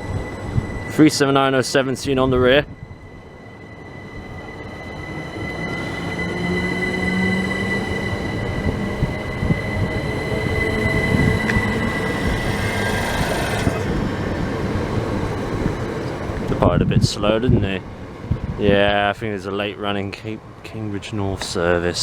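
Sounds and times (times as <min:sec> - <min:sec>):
train wheels rumbling: 0:00.0 - 0:20.0
electric train whine: 0:00.0 - 0:22.0.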